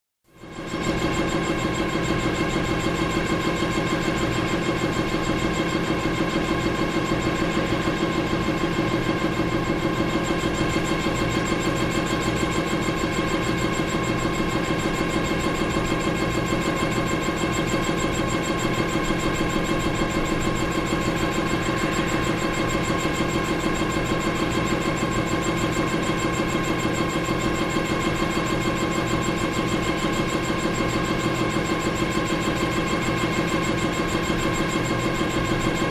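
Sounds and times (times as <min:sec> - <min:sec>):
air compressor engine running: 0:01.2 - 0:35.9.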